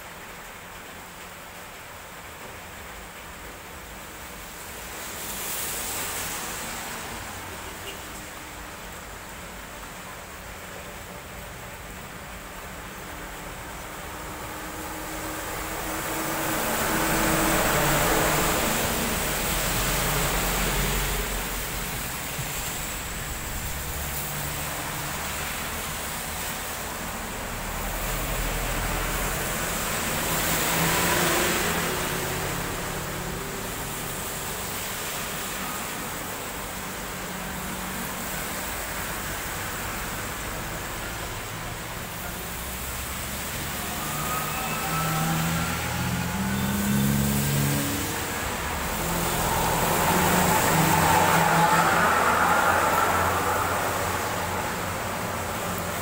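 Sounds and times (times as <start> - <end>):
tyres hissing on wet road: 0.0 - 56.0.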